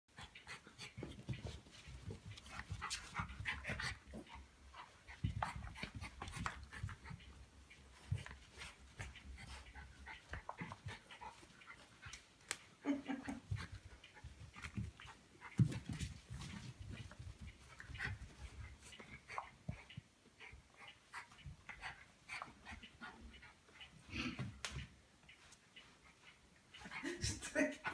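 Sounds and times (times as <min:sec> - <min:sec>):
dogs panting: 0:00.1 - 0:27.9
dogs scuffling: 0:00.2 - 0:23.3.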